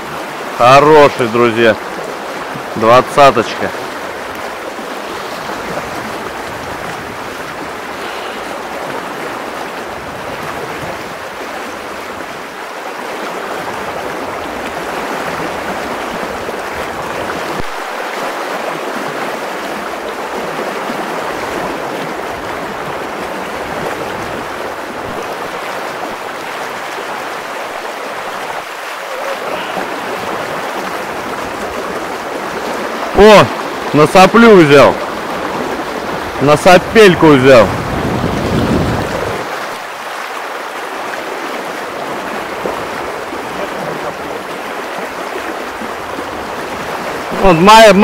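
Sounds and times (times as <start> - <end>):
river water rushing and splashing: 0.0 - 48.0.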